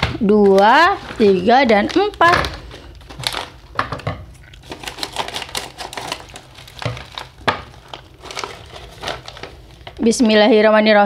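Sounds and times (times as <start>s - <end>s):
snack pouch crinkling and tearing: 0.4s - 10.1s.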